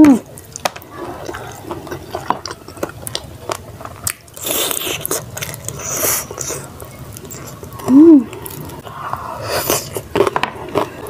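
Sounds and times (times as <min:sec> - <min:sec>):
crunching crispy fried food: 0:00.1 - 0:11.0
wet mouth clicks and chewing: 0:00.2 - 0:11.0.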